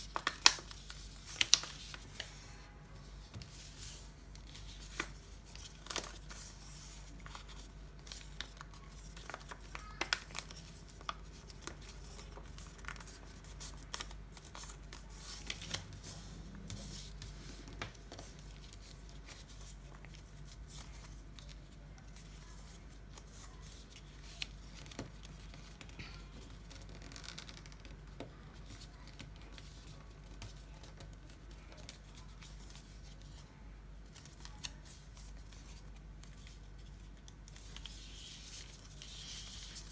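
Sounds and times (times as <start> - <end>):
paper crinkling and creasing: 0.0 - 39.9.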